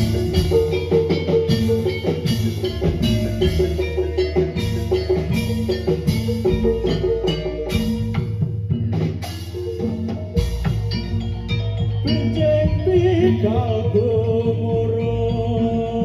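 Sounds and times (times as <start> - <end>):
drums beating dense rhythm: 0.0 - 16.0
heavy bass: 0.0 - 16.0
metal percussion notes: 0.0 - 16.0.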